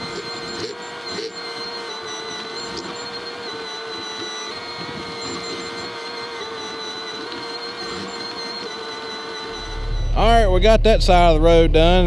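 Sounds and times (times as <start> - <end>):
excavator engine drone: 0.0 - 12.0
high hydraulic whine: 0.0 - 12.0.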